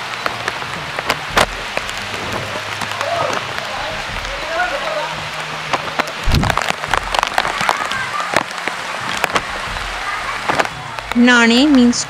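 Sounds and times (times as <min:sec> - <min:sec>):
faint voices: 0:00.0 - 0:12.0
rain falling: 0:00.0 - 0:12.0
raindrops tapping and clicking: 0:00.0 - 0:12.0.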